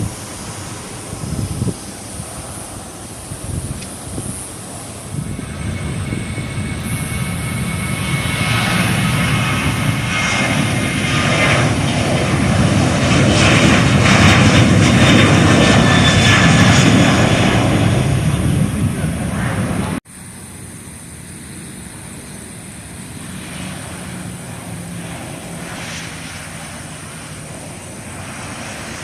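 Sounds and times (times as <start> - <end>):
jet engines roaring with high whine: 0.0 - 29.0.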